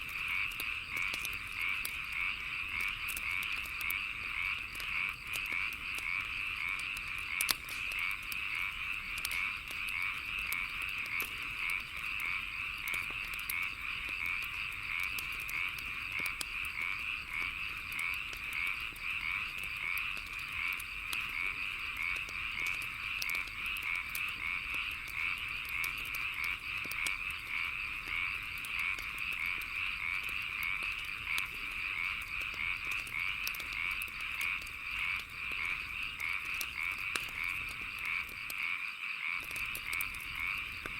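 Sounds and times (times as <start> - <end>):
faint insect trill: 0.0 - 40.9
frogs calling: 0.0 - 40.9
wood fire crackling and popping: 0.0 - 40.9.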